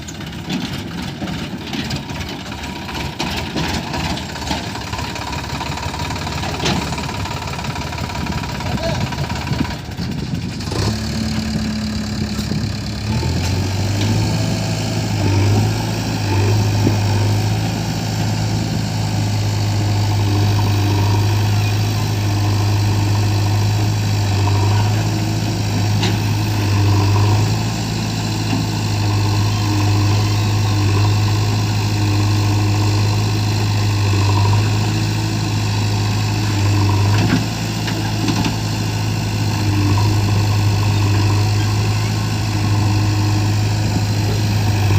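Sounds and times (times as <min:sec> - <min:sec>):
diesel engines running: 0:00.0 - 0:44.9.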